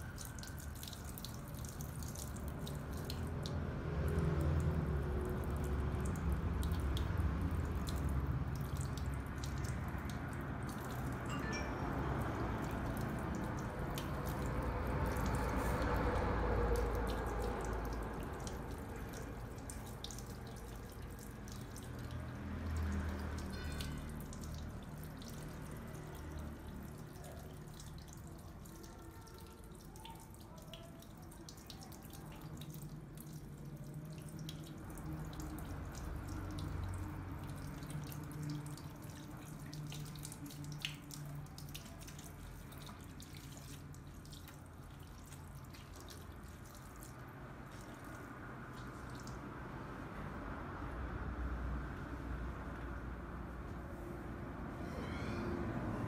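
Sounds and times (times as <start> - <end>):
water trickling into a basin: 0.0 - 55.8.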